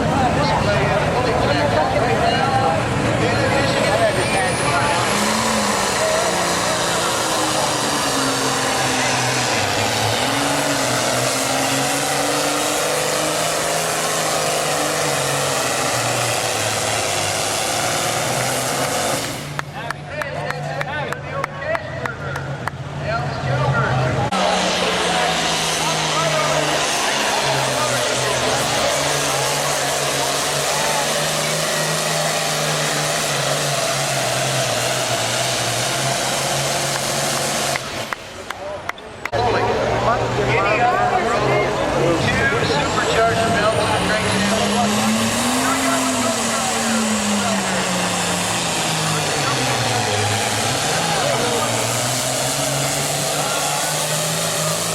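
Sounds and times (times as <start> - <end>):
tractor diesel engine at high revs: 0.0 - 54.9.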